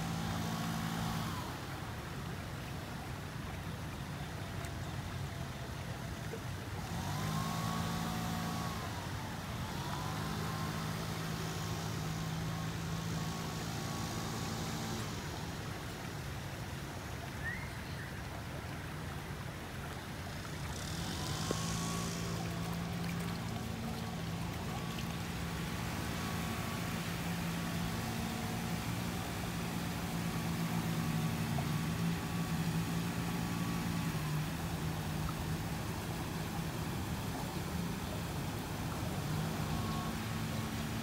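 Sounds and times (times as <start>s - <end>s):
background noise wash: 0.0s - 41.0s
low motor hum: 0.0s - 41.0s.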